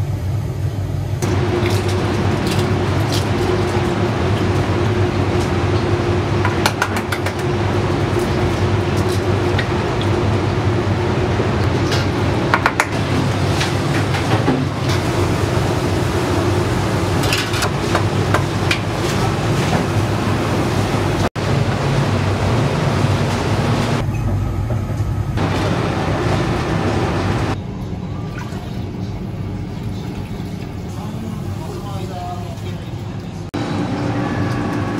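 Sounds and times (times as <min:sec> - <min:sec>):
kitchen equipment hum: 0:00.0 - 0:34.9.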